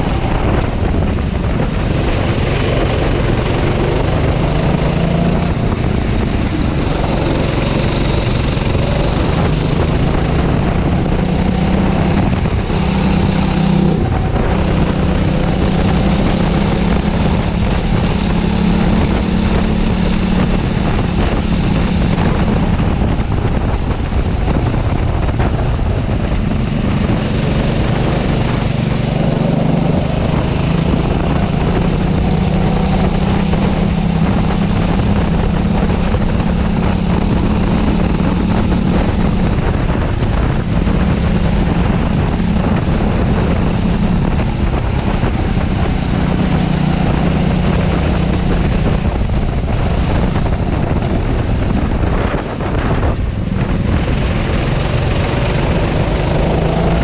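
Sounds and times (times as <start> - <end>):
kart engine revving high: 0.0 - 57.0
wind noise on microphone: 0.0 - 57.0.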